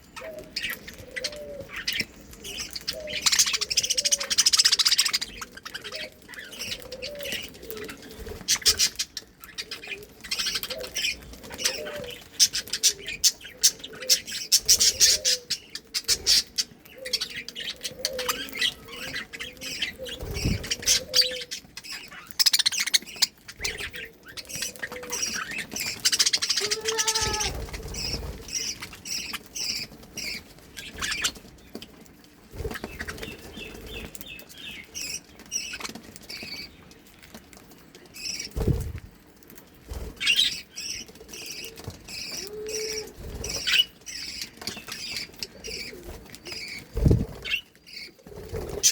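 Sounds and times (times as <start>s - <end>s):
budgerigars chirping and warbling: 0.0s - 31.8s, 32.6s - 36.8s, 40.0s - 48.9s
beaks nibbling leaves clicking: 0.2s - 47.7s.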